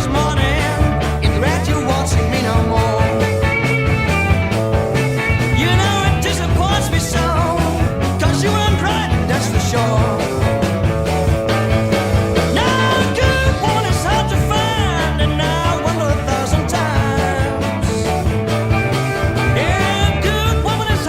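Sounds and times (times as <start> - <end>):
bass and drums: 0.0 - 21.0
lead guitar bending notes: 0.0 - 21.0.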